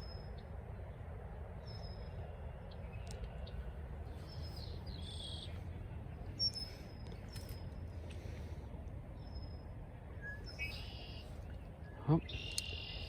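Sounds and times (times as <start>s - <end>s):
birds chirping: 0.0s - 13.0s
low outdoor rumble: 0.0s - 13.0s.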